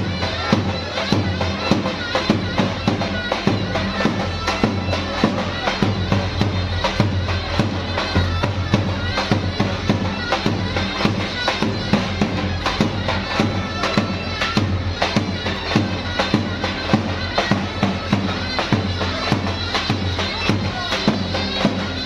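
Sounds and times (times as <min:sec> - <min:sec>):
reedy wind instrument held notes: 0:00.0 - 0:22.0
steady drum beat: 0:00.0 - 0:22.0.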